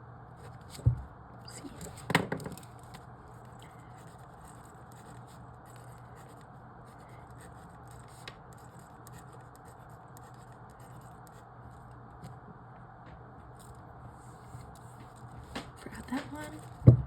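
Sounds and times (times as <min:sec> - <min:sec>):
paper handling ticks: 0:01.5 - 0:12.4, 0:13.5 - 0:16.8.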